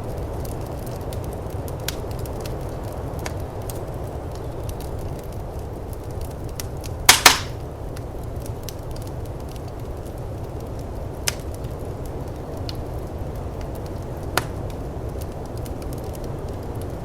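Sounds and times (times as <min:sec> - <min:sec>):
fire crackling: 0:00.0 - 0:17.0
fire popping: 0:00.0 - 0:17.0
wind rumbling: 0:00.0 - 0:17.0.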